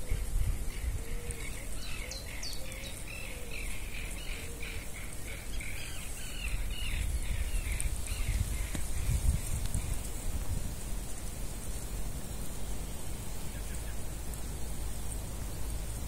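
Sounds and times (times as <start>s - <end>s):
songbird chirping: 0.0s - 10.3s, 11.0s - 16.0s.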